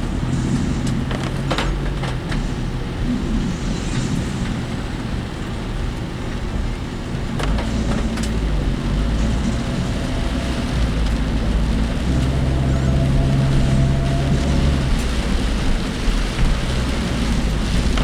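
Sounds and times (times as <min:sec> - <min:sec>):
engine and road rumble: 0:00.0 - 0:18.0
engine hum: 0:00.0 - 0:18.0.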